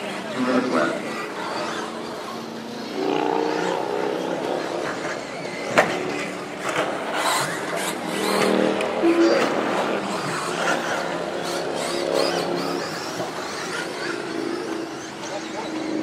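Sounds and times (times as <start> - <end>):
electric toy truck motors whining: 0.0 - 16.0.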